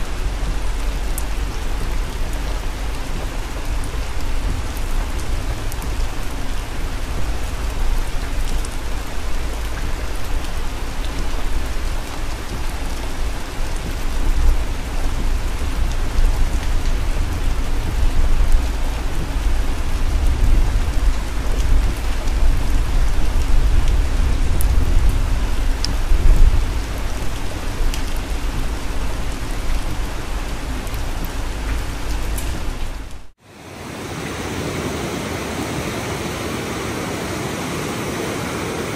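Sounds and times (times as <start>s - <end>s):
low road rumble: 0.0s - 33.3s.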